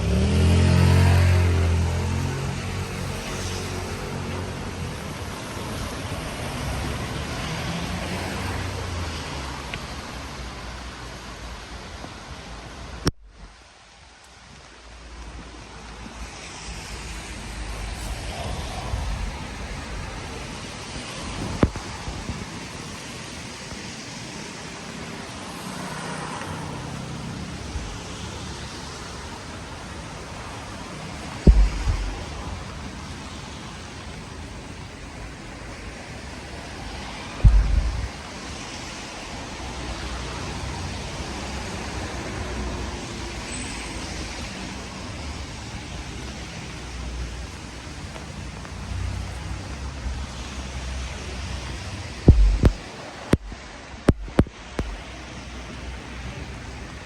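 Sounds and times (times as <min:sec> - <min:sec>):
car driving past on wet road: 0:00.0 - 0:13.1, 0:15.7 - 0:57.0
low traffic rumble: 0:00.0 - 0:57.0
rain hiss: 0:00.0 - 0:57.0.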